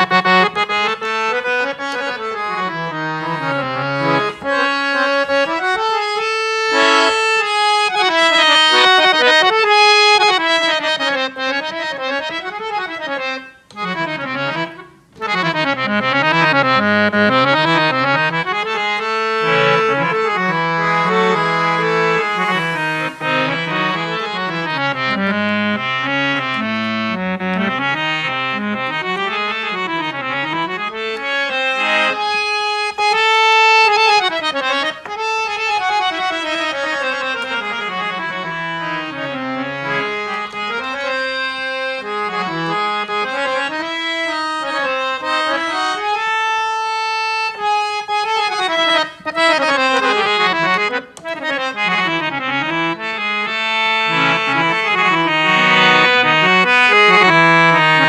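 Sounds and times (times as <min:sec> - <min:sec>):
harmonium melody: 0:00.0 - 0:58.0.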